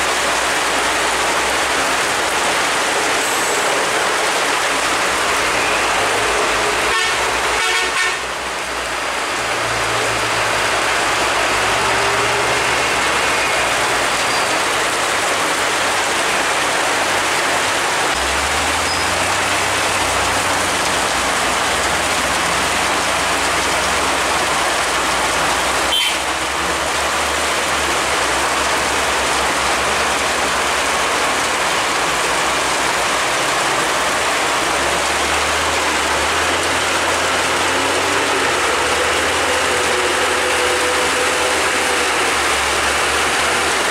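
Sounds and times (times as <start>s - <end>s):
heavy rain hiss: 0.0s - 43.9s
heavy vehicle engine running: 0.0s - 43.9s.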